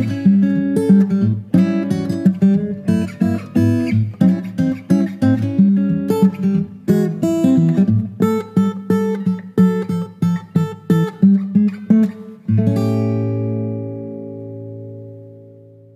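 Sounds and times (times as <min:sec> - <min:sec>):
guitar picking notes: 0:00.0 - 0:15.9.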